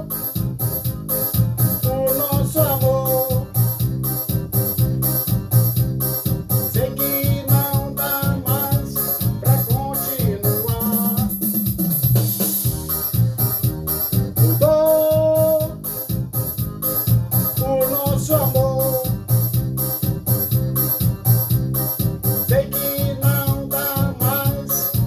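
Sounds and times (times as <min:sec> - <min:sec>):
electronic keyboard lead: 0:00.0 - 0:25.0
steady drum beat and bass: 0:00.0 - 0:25.0.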